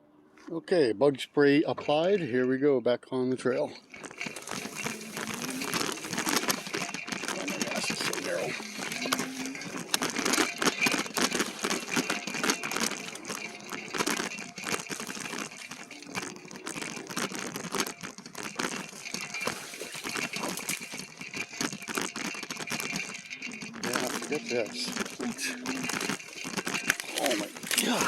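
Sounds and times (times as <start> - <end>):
leaves and twigs rustling against bike: 3.3 - 28.0
twigs snapping: 3.8 - 28.0.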